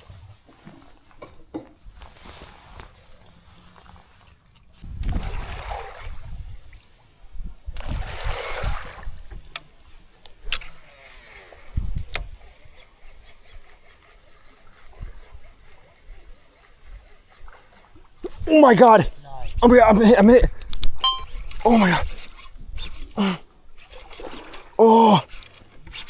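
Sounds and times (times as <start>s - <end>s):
water splashing around a kayak: 0.0s - 19.0s, 21.4s - 26.0s.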